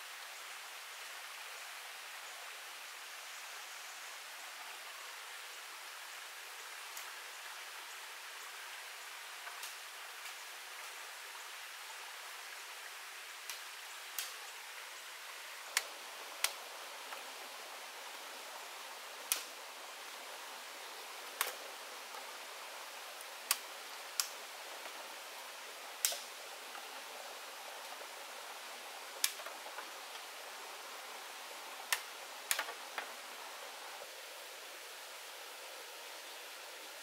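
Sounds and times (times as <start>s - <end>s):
running water hiss: 0.0s - 37.0s.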